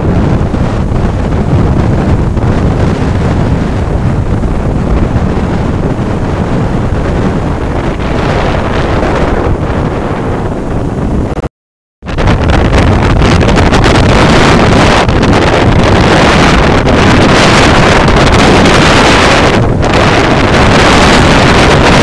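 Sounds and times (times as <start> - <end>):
surf breaking on beach: 0.0 - 11.4, 12.1 - 22.0
wind buffeting microphone: 0.0 - 22.0.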